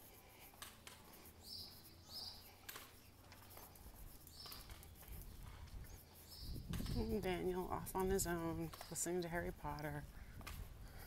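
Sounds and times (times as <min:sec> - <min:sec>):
soft footsteps on pavement: 0:00.0 - 0:11.0.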